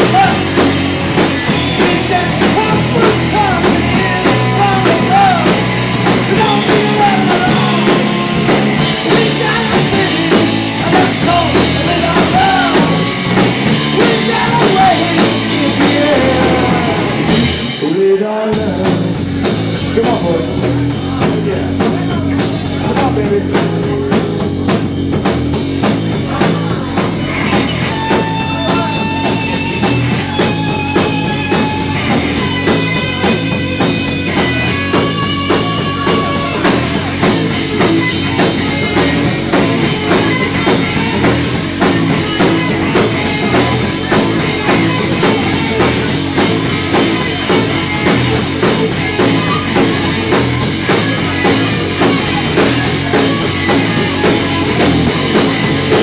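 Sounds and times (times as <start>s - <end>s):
electric guitar long notes: 0.0s - 24.3s, 26.1s - 56.0s
bass: 0.0s - 56.0s
drum kit beat: 0.0s - 56.0s.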